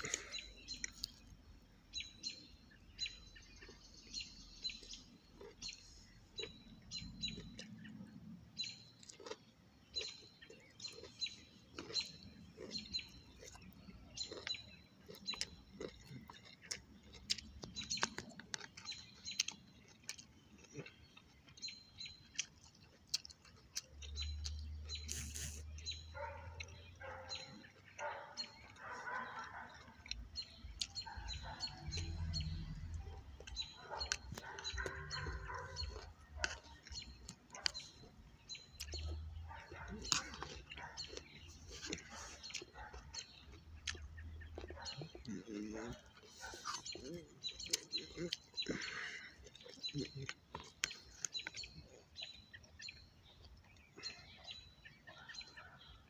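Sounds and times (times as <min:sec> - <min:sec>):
chewing clicks and smacks: 0:00.0 - 0:01.5, 0:02.3 - 0:56.0
small birds chirping: 0:00.0 - 0:56.0.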